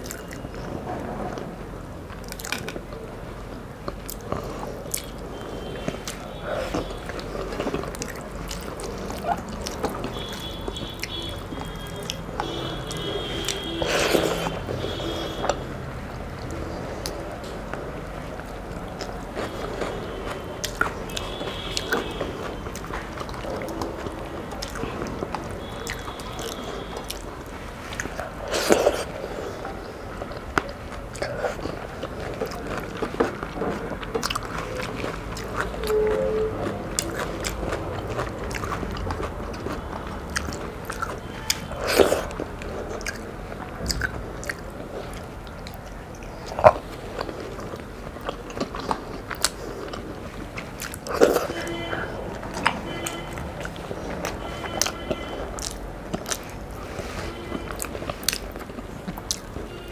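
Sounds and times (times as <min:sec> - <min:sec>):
chewing and mouth smacks: 0:00.0 - 0:00.7, 0:02.1 - 0:59.9.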